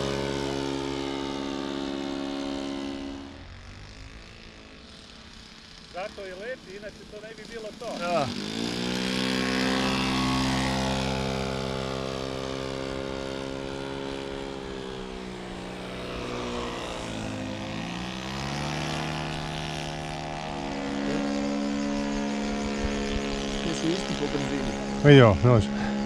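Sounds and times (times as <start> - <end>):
model plane engine at high throttle: 0.0 - 26.0.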